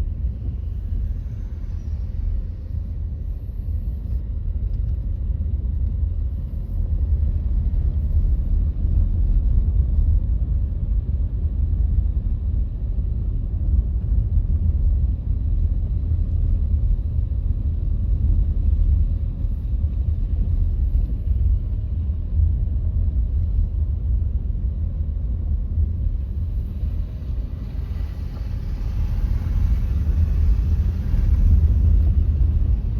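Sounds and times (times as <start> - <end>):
engine and road rumble: 0.0 - 32.9.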